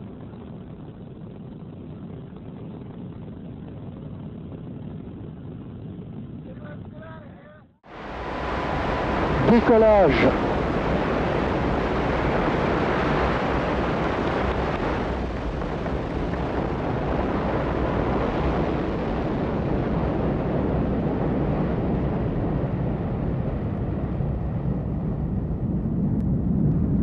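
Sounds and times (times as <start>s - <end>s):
rocket engines roaring: 0.0s - 27.0s.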